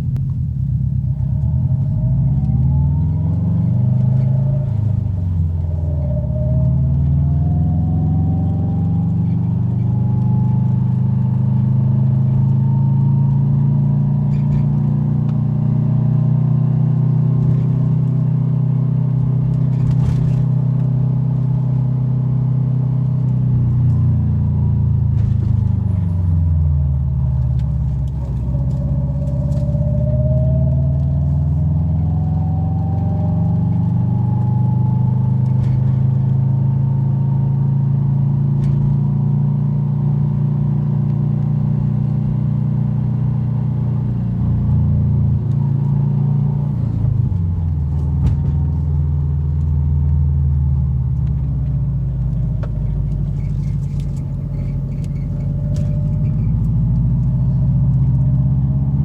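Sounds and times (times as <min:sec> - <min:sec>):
car engine drone: 0:00.0 - 0:59.0.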